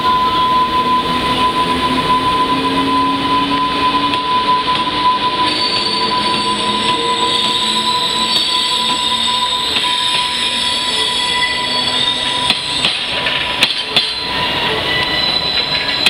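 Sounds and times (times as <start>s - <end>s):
locomotive high tone: 0.0s - 16.0s.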